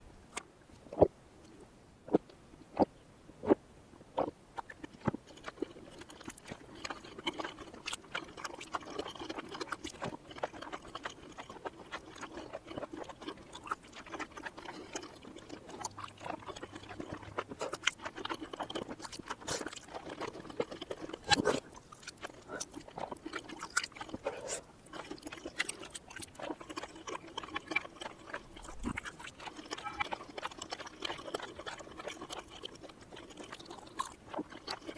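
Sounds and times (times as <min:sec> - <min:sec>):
chewing and mouth sounds: 0:00.3 - 0:34.9.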